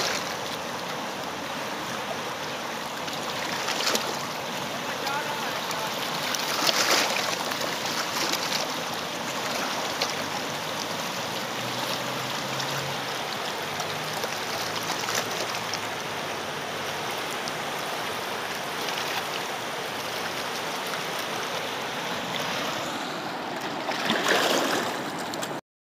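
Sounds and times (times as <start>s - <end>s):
river rushing over rocks: 0.0s - 25.6s.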